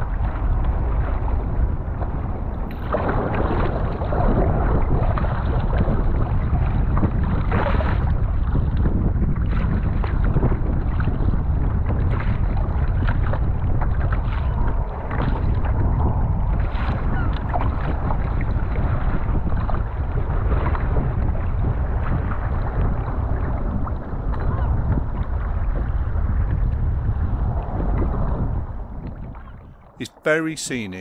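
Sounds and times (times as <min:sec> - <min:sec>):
water splashing against kayak hull: 0:00.0 - 0:28.5
wind buffeting microphone: 0:00.0 - 0:30.0.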